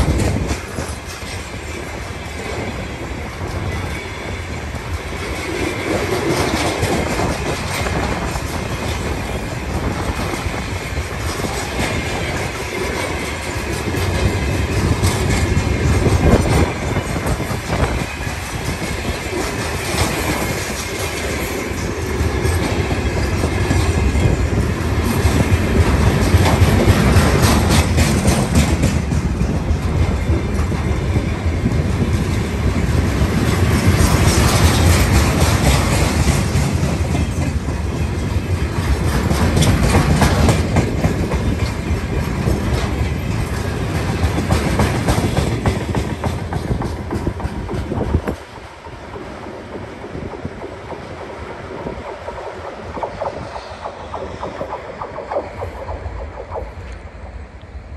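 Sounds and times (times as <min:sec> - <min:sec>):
wheels clacking over rail joints: 0:00.0 - 0:57.7
train wheels rumbling on rail: 0:00.0 - 0:57.9.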